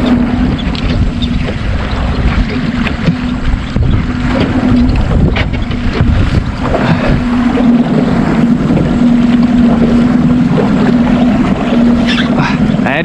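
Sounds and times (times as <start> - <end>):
boat motor humming: 0.0 - 13.0
water slapping hull: 0.0 - 13.0
wind buffeting microphone: 0.0 - 13.0.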